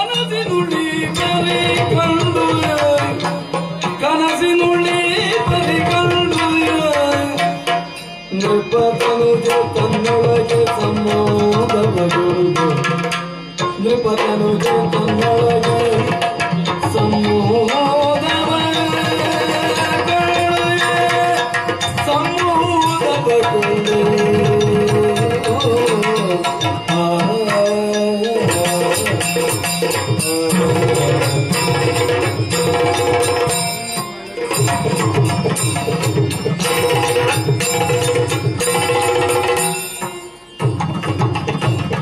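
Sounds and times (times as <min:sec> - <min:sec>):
person singing wavering melody: 0:00.0 - 0:12.8, 0:13.5 - 0:40.7.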